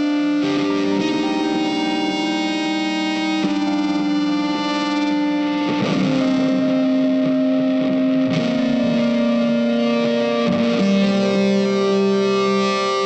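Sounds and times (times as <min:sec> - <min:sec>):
music with long held notes: 0:00.0 - 0:13.0.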